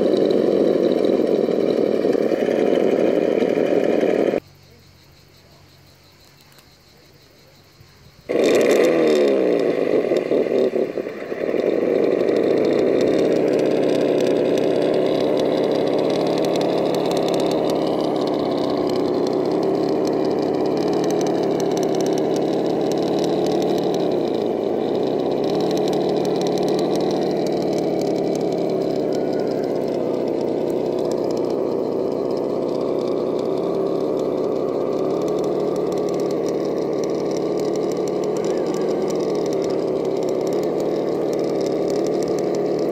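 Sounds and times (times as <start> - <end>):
electric motor humming and whining: 0.0 - 4.4, 8.3 - 42.9.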